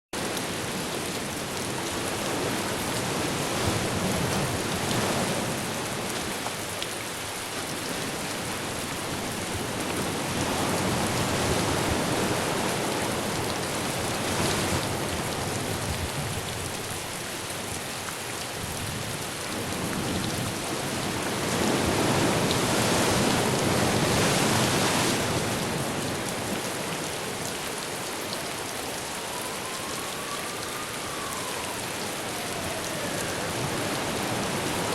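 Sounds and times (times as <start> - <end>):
heavy rain pouring: 0.2 - 34.9
wind gusts: 0.2 - 34.9.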